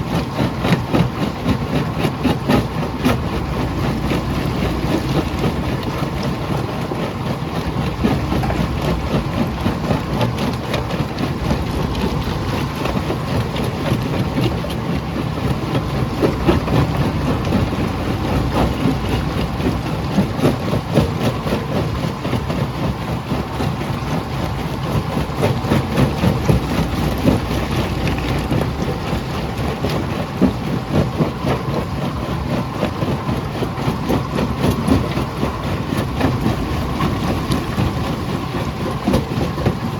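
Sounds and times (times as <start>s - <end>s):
jaw crusher rumbling: 0.5s - 22.4s, 24.4s - 31.0s, 33.8s - 39.9s.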